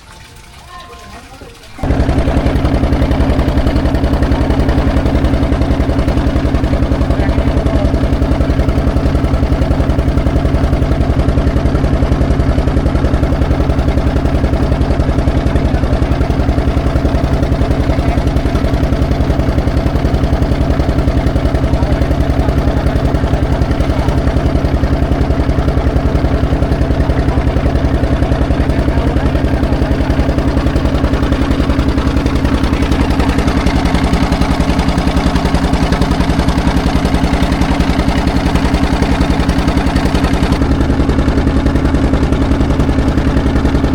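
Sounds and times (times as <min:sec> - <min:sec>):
engine running with pulsing beat: 0:01.7 - 0:43.9.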